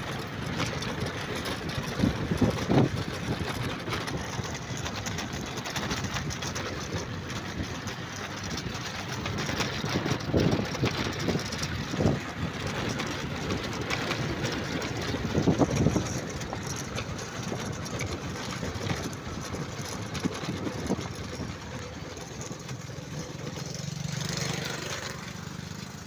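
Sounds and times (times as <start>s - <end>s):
rough rumble of travel: 0.0s - 26.0s
vehicle engine running: 0.0s - 26.0s.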